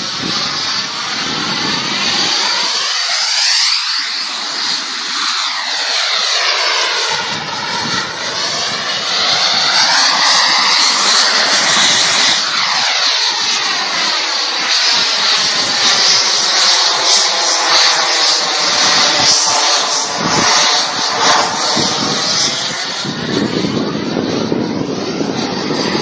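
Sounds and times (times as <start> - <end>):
fighter jet flying past: 0.0 - 26.0.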